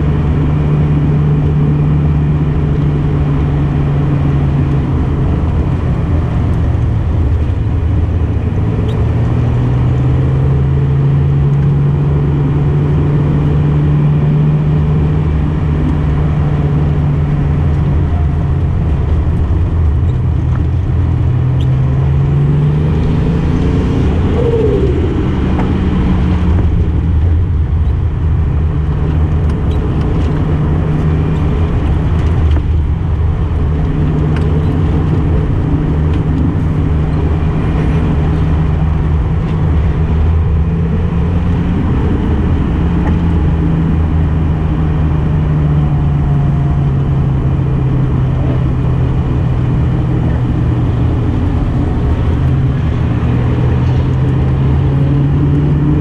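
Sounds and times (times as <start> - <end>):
car engine running: 0.0 - 56.0
wind: 0.0 - 56.0.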